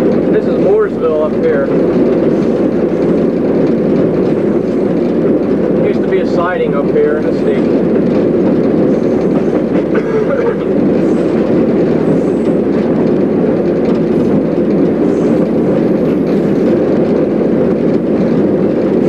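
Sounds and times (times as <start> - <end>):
locomotive engine drone: 0.0 - 19.0
train wheels on rails: 0.0 - 19.0.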